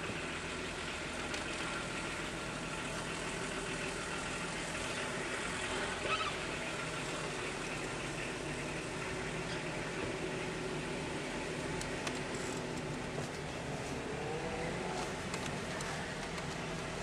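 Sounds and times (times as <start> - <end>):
car engine and tyre hum: 0.0 - 17.0.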